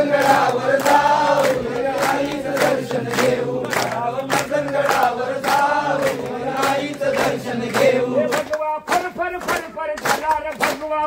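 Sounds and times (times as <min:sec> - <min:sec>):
men singing in chorus: 0:00.0 - 0:09.4.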